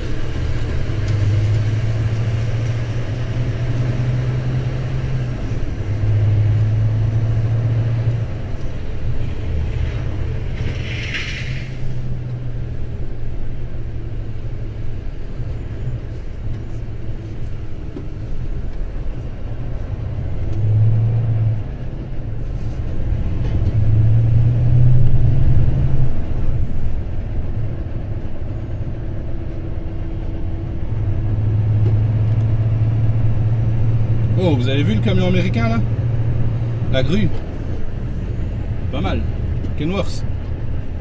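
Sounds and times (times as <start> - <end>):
truck diesel engine drone: 0.0 - 41.0.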